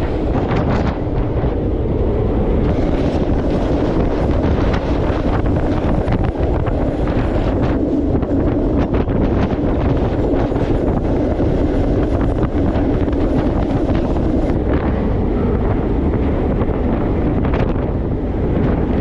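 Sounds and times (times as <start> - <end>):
freight train rumbling: 0.0 - 19.0
wind buffeting microphone: 0.0 - 19.0.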